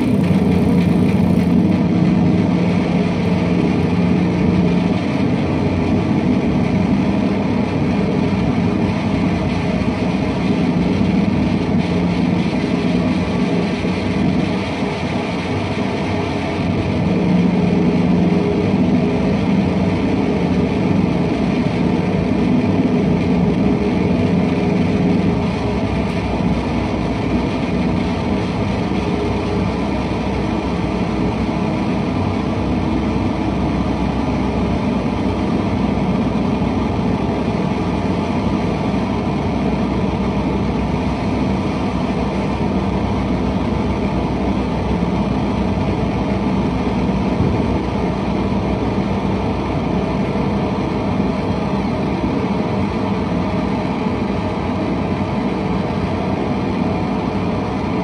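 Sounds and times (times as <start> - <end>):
electric guitar drone: 0.0 - 58.0.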